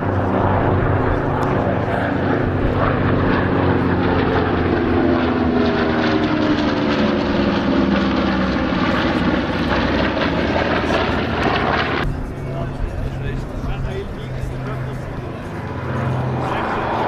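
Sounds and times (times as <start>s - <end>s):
propeller planes droning past: 0.0s - 17.0s.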